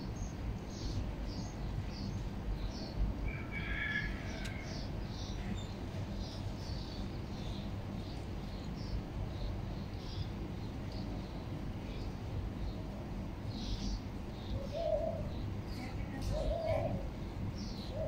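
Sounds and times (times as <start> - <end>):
low background noise: 0.0 - 18.0
small birds chirping: 0.0 - 18.0.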